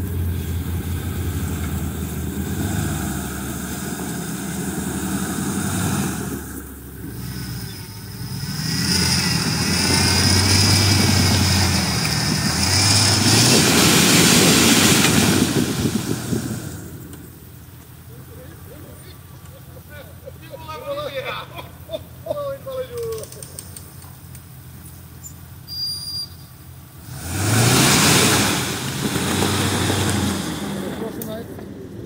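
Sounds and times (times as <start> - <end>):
off-road vehicle engine revving: 0.0 - 20.4, 23.0 - 32.0.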